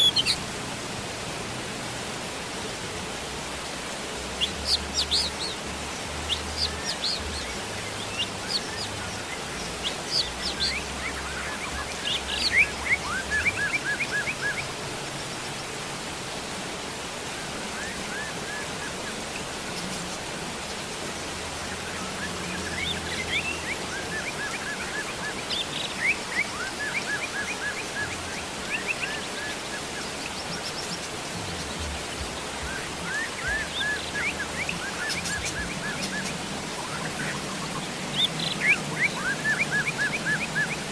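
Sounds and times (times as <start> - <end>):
songbirds chirping: 0.0 - 40.9
steady rain: 0.0 - 40.9.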